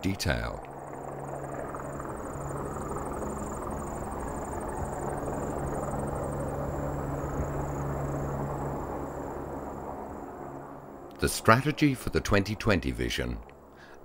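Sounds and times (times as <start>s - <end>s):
helicopter flying low: 0.0s - 14.0s.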